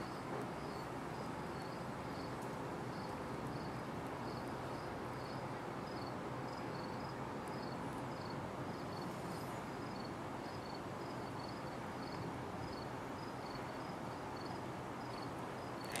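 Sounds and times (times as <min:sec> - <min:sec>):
faint high insect chirp: 0:00.0 - 0:16.0.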